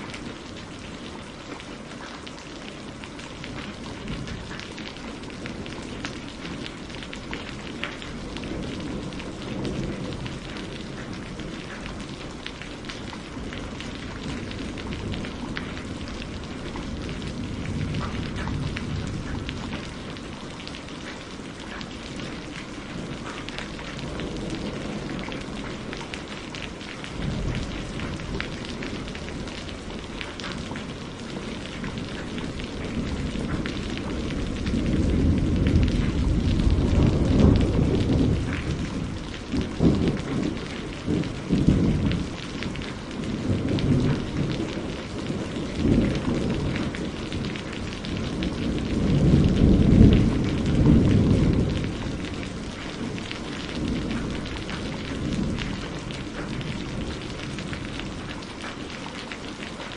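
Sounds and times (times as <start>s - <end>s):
steady rain falling: 0.0s - 59.9s
rolling thunder: 3.5s - 58.4s.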